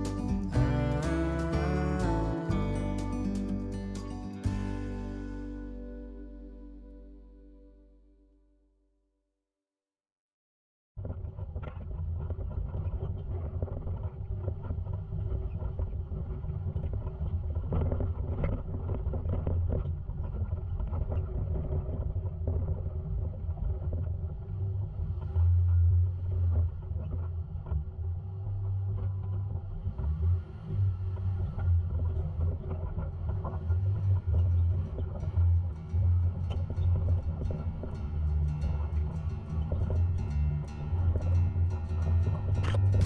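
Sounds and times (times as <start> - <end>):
off-road vehicle engine rumble: 0.0 - 7.5, 11.3 - 43.0.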